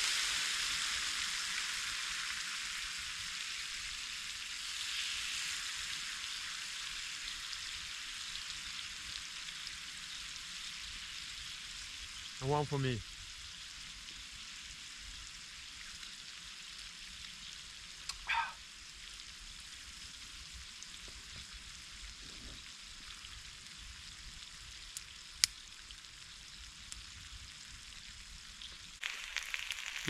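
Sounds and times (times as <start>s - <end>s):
potatoes sizzling in a pan: 0.0s - 30.0s.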